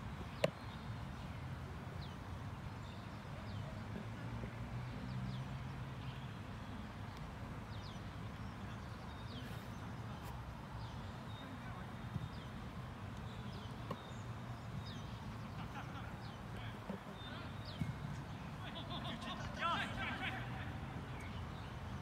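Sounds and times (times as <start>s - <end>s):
faint distant voices: 2.8s - 22.0s.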